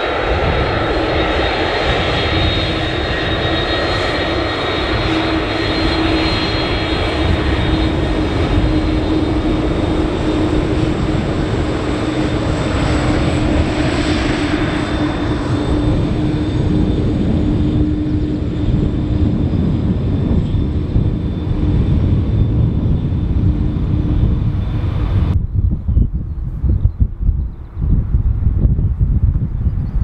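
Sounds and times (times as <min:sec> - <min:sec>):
jet engines rumbling and hissing: 0:00.0 - 0:30.0.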